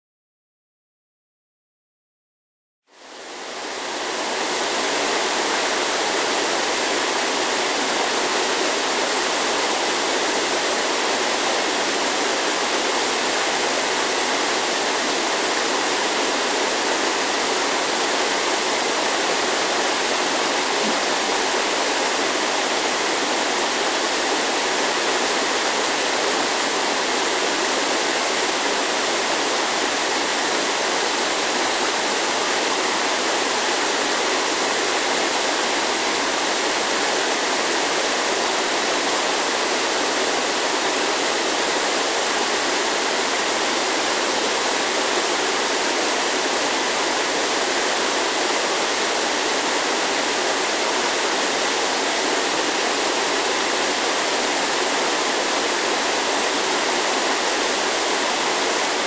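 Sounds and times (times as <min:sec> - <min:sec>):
waterfall rushing: 0:02.9 - 0:59.0.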